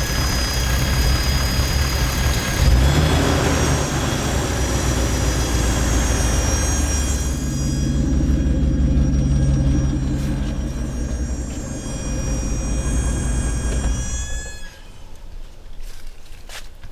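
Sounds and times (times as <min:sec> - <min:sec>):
high-pitched squeal: 0:00.0 - 0:15.6
car engine rumbling: 0:00.0 - 0:15.9.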